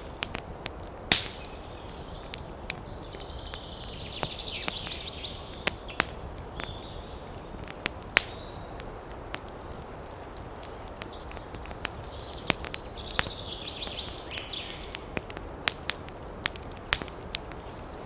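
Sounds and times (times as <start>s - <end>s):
campfire crackling and popping: 0.0s - 18.0s
wind hiss: 0.0s - 18.0s.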